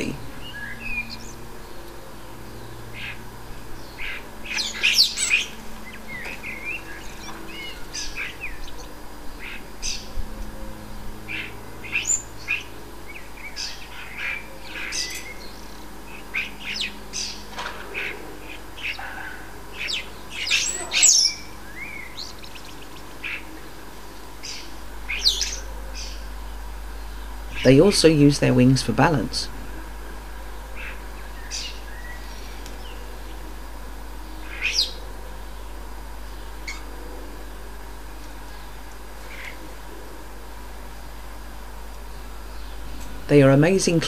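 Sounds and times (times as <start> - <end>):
starlings chattering and squawking: 0.0 - 44.0.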